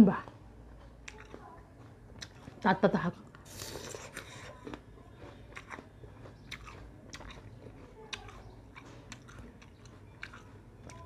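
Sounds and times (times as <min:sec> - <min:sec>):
person chewing crisp apple: 0:00.9 - 0:02.6, 0:03.3 - 0:11.0.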